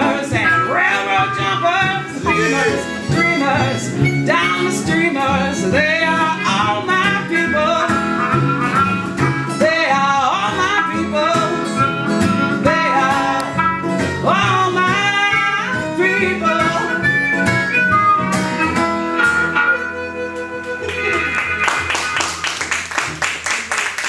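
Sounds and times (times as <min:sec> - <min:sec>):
country song: 0:00.0 - 0:24.0.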